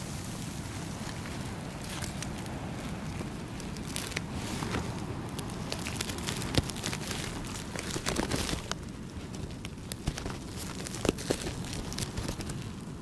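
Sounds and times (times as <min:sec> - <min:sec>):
ice and snow crunching: 0:00.0 - 0:13.0.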